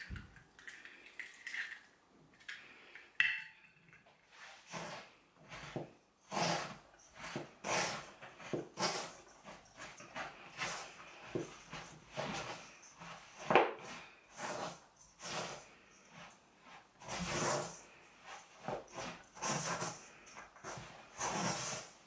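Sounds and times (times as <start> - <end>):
dough mixing in a bowl: 4.0 - 22.0.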